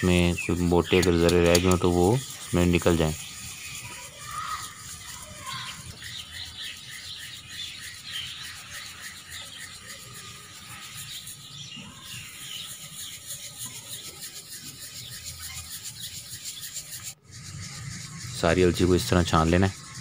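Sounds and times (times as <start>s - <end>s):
flour sieve rubbing: 0.0s - 20.0s.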